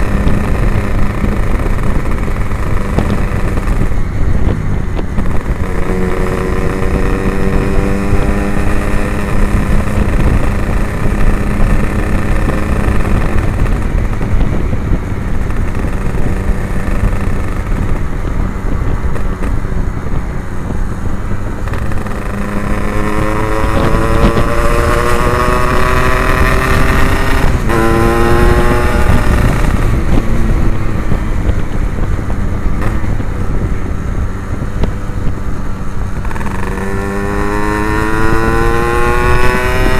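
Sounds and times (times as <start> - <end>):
gear change: 0.0 - 39.9
motorcycle engine revving: 0.0 - 39.9
wind rumble on microphone: 0.0 - 39.9.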